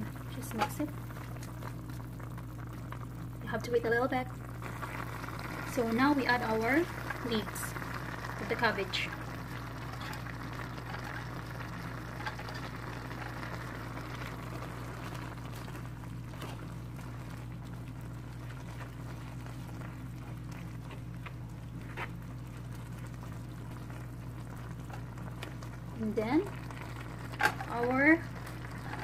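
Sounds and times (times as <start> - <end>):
food simmering in a frying pan: 0.0 - 29.0
low hum: 0.0 - 29.0.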